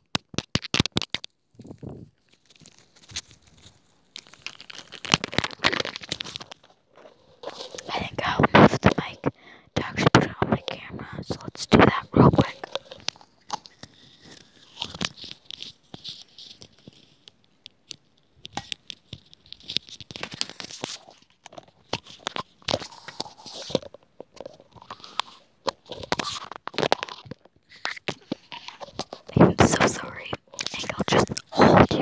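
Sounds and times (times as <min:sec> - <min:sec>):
earbud cord crackling and rustling: 0:00.0 - 0:32.0.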